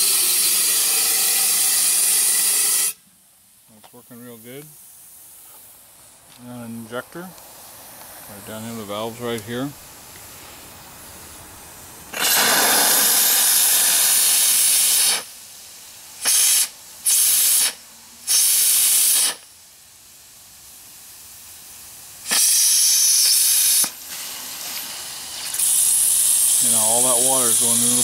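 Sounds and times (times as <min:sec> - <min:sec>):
steam hissing blasts: 0:00.0 - 0:03.0, 0:07.2 - 0:28.0
lower steam hiss: 0:00.0 - 0:28.0.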